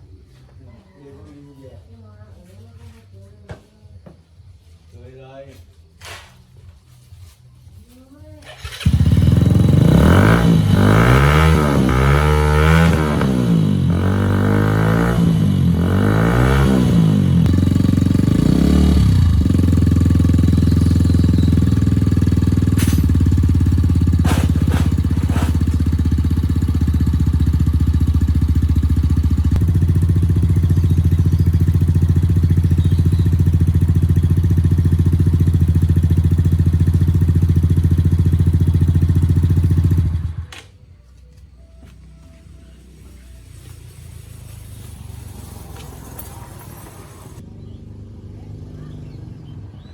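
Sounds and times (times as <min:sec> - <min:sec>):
motorcycle engine revving and idling: 0:08.2 - 0:40.6, 0:41.8 - 0:49.9.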